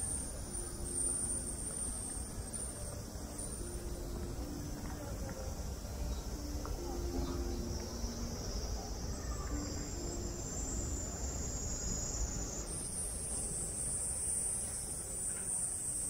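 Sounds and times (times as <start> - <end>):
cicadas buzzing: 0.0 - 16.0
louder cicada chorus: 0.0 - 16.0.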